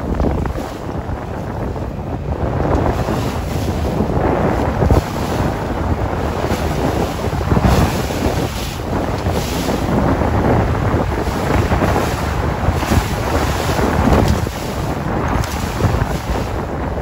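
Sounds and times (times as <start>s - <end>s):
choppy sea splashing: 0.0s - 17.0s
strong wind buffeting microphone: 0.0s - 17.0s.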